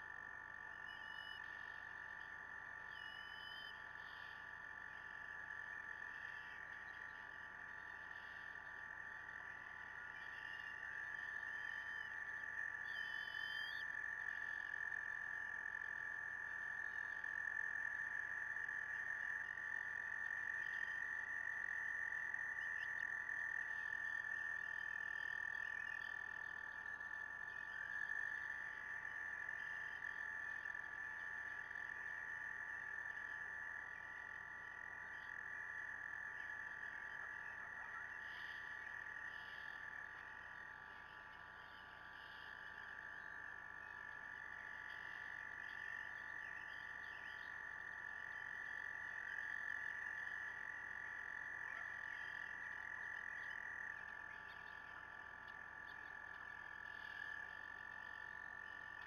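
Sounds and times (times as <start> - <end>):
frogs trilling: 0.0 - 59.0.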